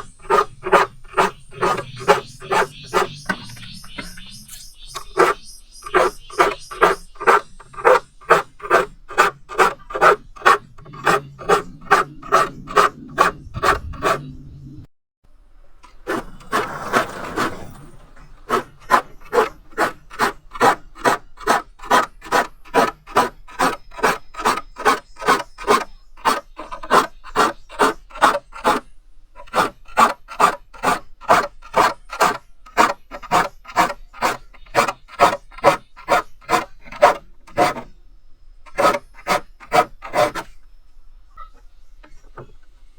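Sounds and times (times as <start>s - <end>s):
file rasping on saw teeth: 0.0s - 14.4s, 18.4s - 37.9s, 38.7s - 40.6s.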